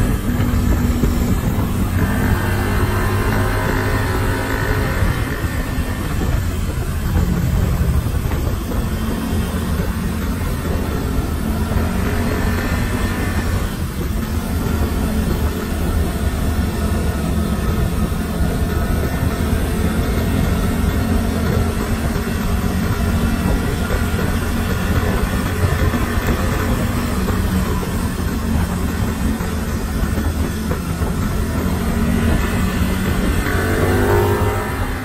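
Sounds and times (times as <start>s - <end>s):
scooter engine droning: 0.0s - 35.0s
tyres rumbling on concrete: 0.0s - 35.0s.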